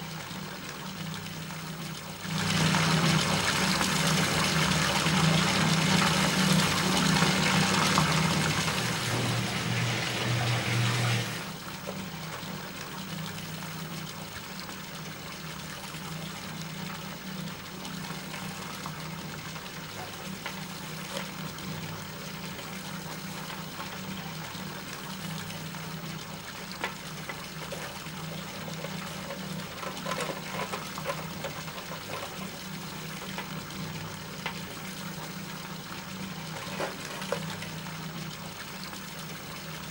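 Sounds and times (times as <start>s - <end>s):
tap water running into tub: 0.0s - 39.9s.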